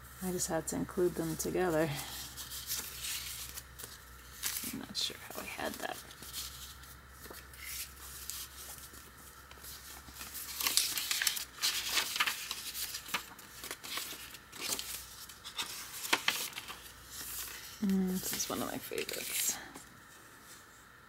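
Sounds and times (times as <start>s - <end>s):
paper pages rustling: 1.2s - 20.7s.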